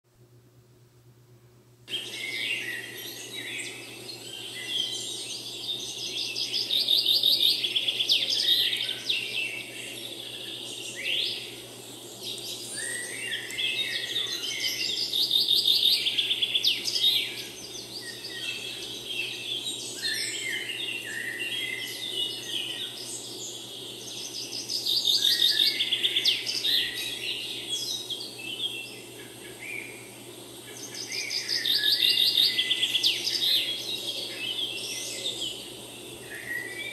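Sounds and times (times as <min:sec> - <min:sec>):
small birds singing and chirping: 0:01.9 - 0:36.9.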